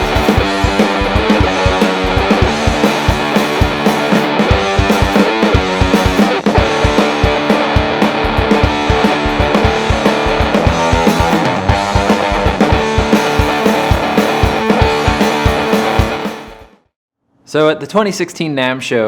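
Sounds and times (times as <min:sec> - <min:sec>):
drum beat: 0:00.0 - 0:16.8
fuzzed electric guitar riff: 0:00.0 - 0:16.8.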